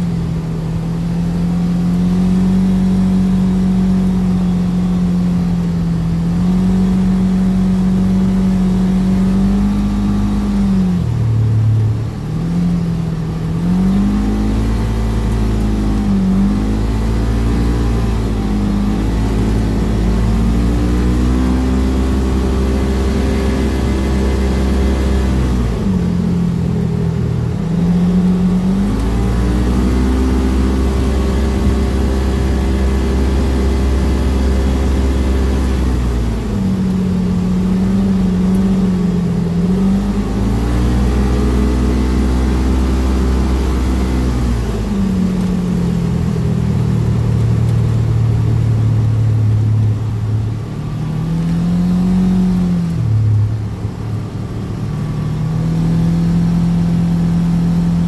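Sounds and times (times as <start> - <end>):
tyres on gravel road: 0.0 - 58.0
vehicle engine running: 0.0 - 58.0.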